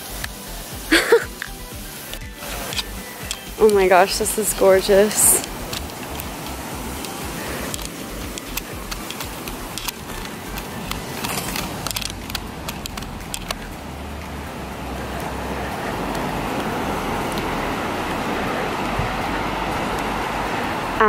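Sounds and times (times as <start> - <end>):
ocean surf rushing: 0.0 - 21.0
palm fronds rustling: 0.8 - 20.8.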